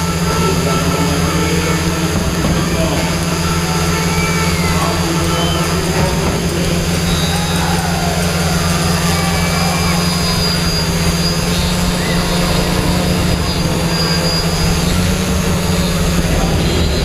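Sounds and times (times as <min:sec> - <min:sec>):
faint voices: 0:00.0 - 0:17.0
loud low mechanical hum: 0:00.0 - 0:17.0.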